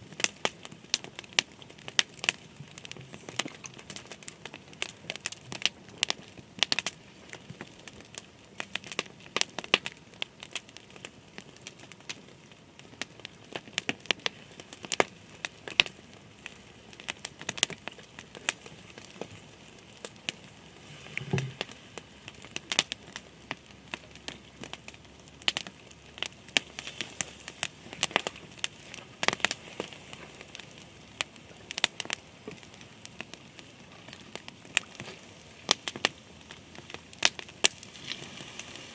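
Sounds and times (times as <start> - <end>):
sharp crackles and crinkling clicks: 0.0 - 38.9.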